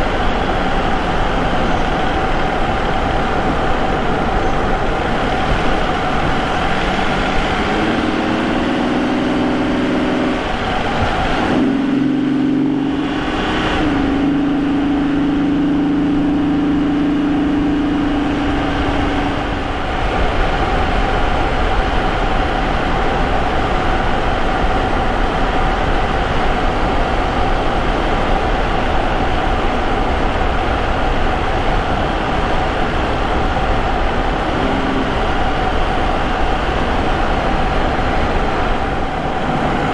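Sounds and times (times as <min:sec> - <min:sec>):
car engine accelerating: 0:00.0 - 0:39.9
road noise: 0:00.0 - 0:39.9.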